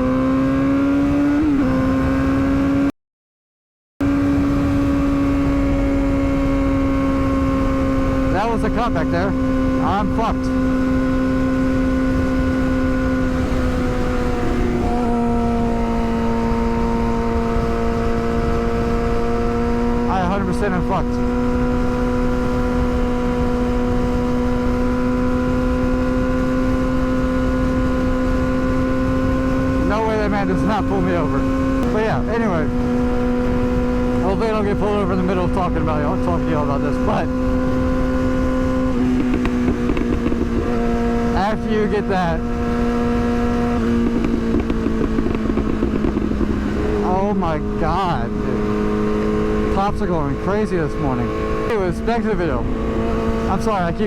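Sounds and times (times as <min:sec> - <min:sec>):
motorcycle engine at high revs: 0:00.0 - 0:02.9, 0:04.0 - 0:54.0
wind noise: 0:04.0 - 0:54.0.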